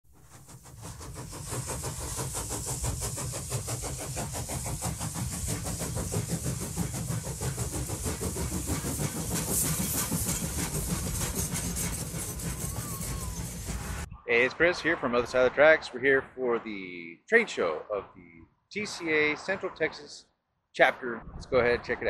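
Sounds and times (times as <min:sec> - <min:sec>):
train running with even beat: 0:00.0 - 0:20.2.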